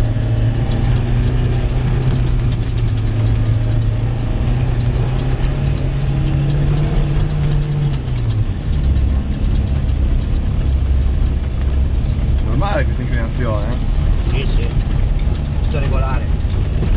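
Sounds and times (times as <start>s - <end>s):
engine droning at low revs: 0.0s - 16.9s.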